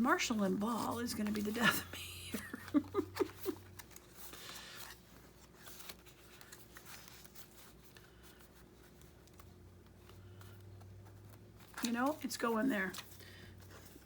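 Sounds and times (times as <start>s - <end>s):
paper rustling: 0.6s - 14.0s.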